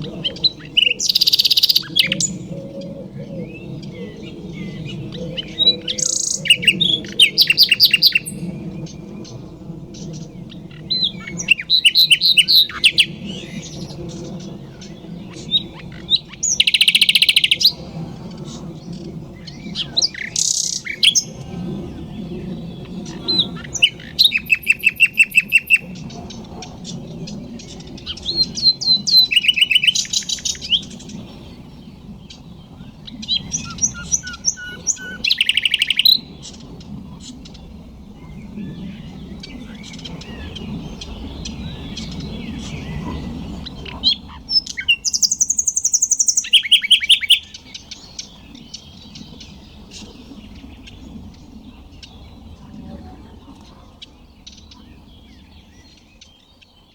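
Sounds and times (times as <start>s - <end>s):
nightingale singing: 0.0s - 31.7s, 32.3s - 36.4s, 38.2s - 52.3s.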